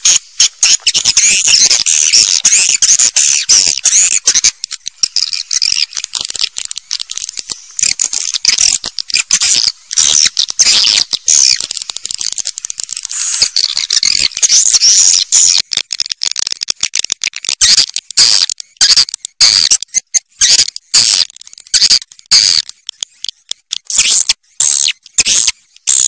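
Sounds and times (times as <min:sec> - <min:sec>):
swiftlets twittering and clicking: 0:00.0 - 0:26.0.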